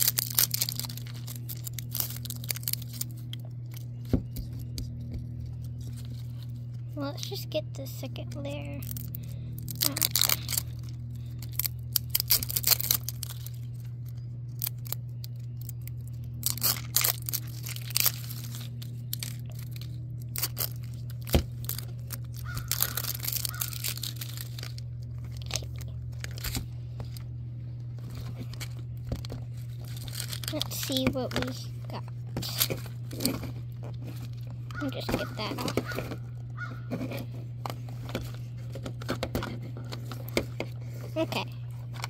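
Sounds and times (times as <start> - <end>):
plastic wrap crinkling: 0.0 - 7.4, 8.4 - 42.0
steady low hum: 0.0 - 42.0.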